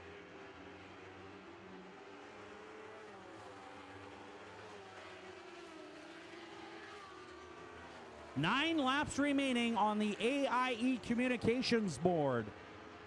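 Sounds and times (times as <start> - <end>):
faint race car engines: 0.0 - 13.0.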